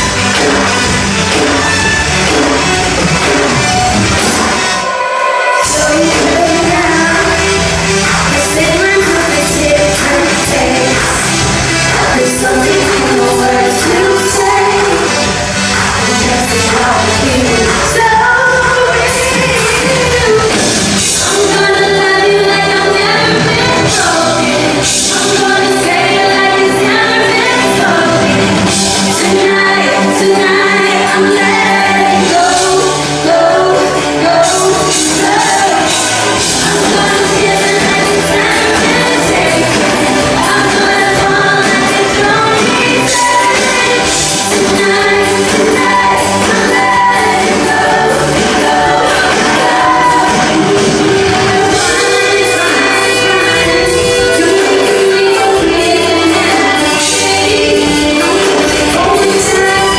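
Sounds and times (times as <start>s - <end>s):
live pop-rock band with singing: 0.0s - 59.9s.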